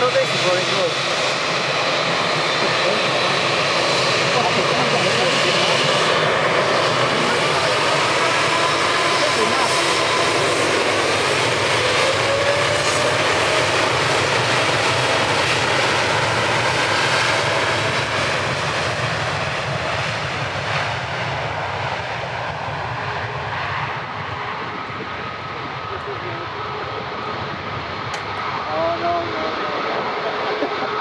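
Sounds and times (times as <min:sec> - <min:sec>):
jet engines roaring with whine: 0:00.0 - 0:31.0.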